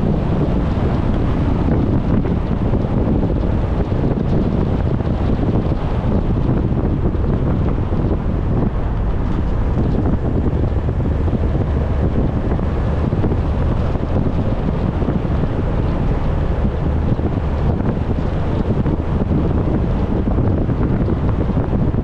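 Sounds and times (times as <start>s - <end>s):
car road noise rumble: 0.0s - 22.0s
wind buffeting microphone: 0.0s - 22.0s
wind rumble: 0.0s - 22.0s.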